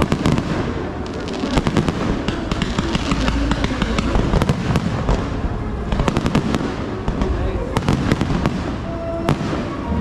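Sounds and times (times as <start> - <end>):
continuous rumble: 0.0 - 10.0
fireworks bangs and crackles: 0.0 - 10.0.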